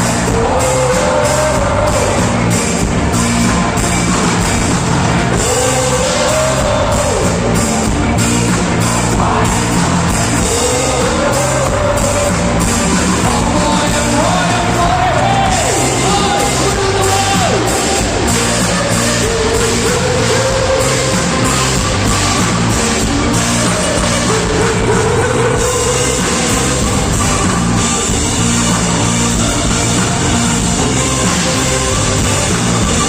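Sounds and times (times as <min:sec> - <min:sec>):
rock band with drum beat: 0:00.0 - 0:33.0.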